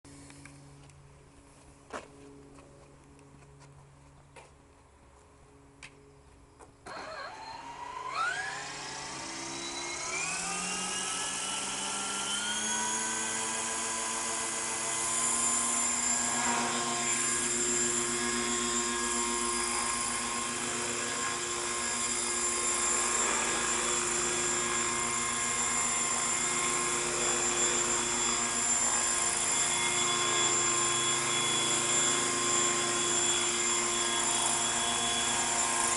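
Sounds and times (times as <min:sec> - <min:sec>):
model helicopter rotor whine: 0:06.8 - 0:35.9.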